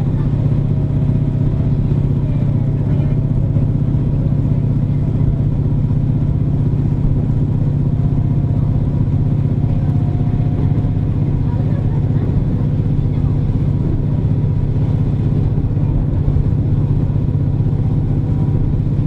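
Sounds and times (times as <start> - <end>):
diesel engine drone: 0.0 - 19.0
train running noise: 0.0 - 19.0.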